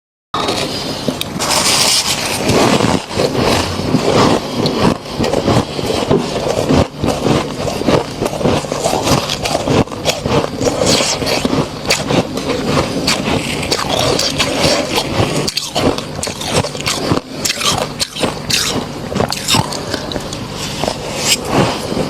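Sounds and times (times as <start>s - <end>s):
frost being scraped and crushed: 0.4s - 22.0s.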